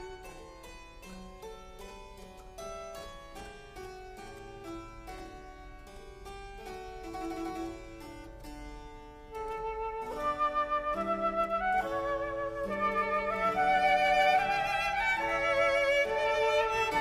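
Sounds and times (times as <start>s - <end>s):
harpsichord playing: 0.0s - 17.0s.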